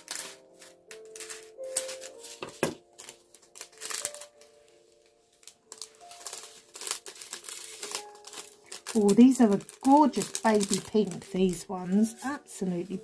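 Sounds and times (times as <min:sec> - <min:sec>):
faint background music: 0:00.0 - 0:13.0
plastic bag crinkling: 0:00.0 - 0:13.0.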